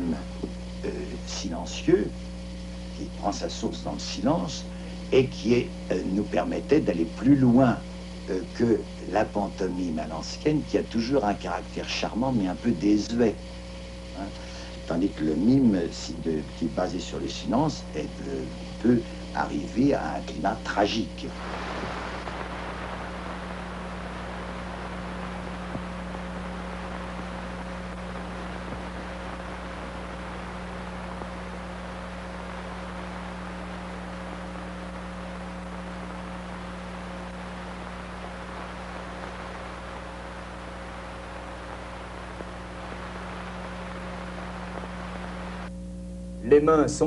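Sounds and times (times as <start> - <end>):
low electrical hum: 0.0 - 47.0
steady film hiss: 0.0 - 47.0.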